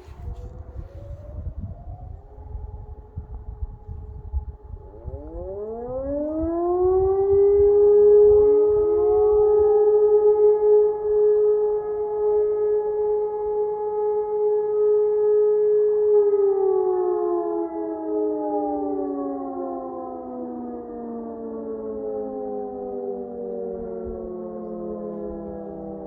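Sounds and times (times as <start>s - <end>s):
electromechanical siren wailing: 0.0s - 26.0s.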